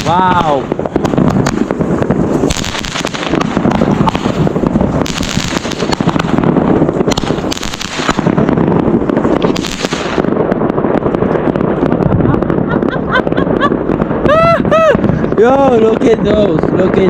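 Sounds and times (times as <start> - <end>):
fireworks crackling and popping: 0.0 - 17.0
fireworks hissing: 0.0 - 17.0.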